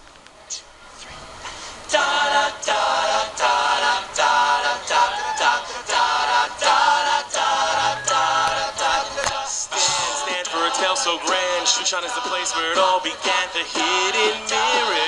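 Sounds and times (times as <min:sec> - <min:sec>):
male a cappella group singing: 0:01.9 - 0:15.0.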